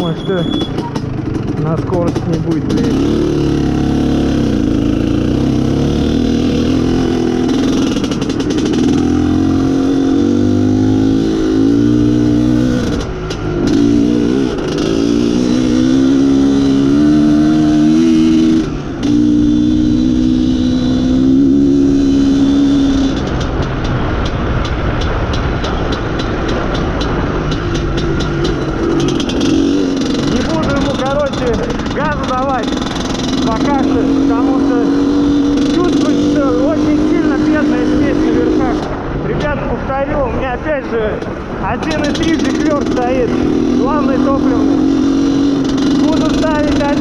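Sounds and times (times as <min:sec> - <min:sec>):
two-stroke motorcycle engine running: 0:00.0 - 0:47.0.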